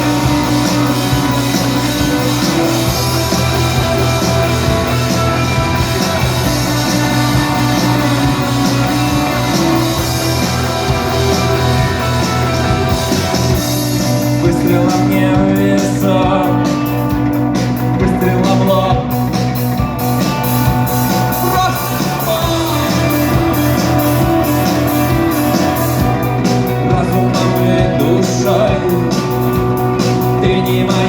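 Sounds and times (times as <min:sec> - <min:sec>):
rock guitars and drums: 0:00.0 - 0:31.0.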